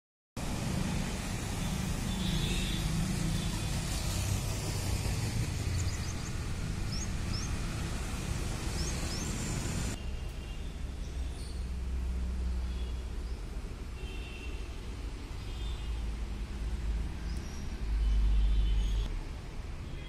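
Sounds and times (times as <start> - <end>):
street rumble and hiss: 0.4 - 20.0.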